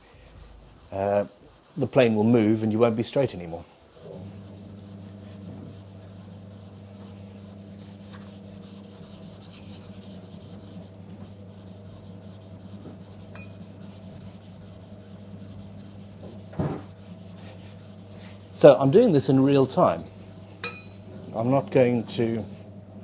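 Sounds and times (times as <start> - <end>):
plane sole scraping on sandpaper: 0.0 - 22.6.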